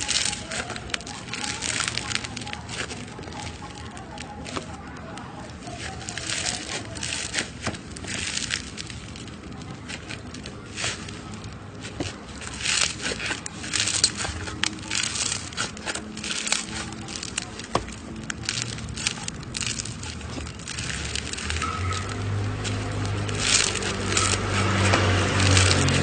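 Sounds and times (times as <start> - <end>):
slime crackling and clicking: 0.0 - 26.0.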